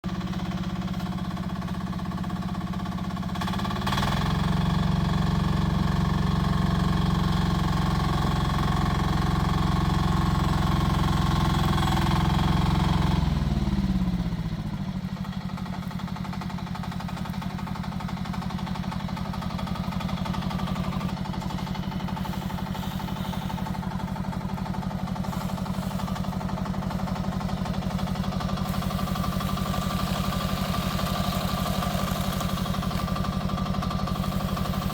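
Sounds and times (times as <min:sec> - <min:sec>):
mini excavator engine running: 0:00.0 - 0:34.9.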